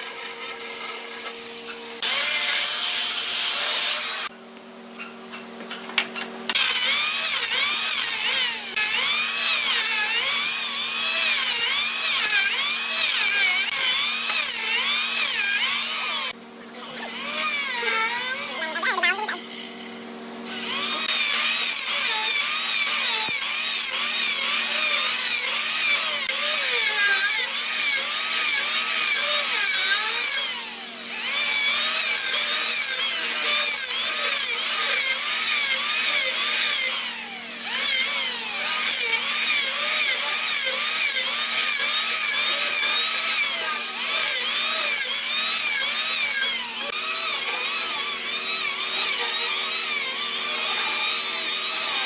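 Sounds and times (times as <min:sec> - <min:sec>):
power tool cutting wood: 0:00.0 - 0:04.3, 0:06.5 - 0:52.0.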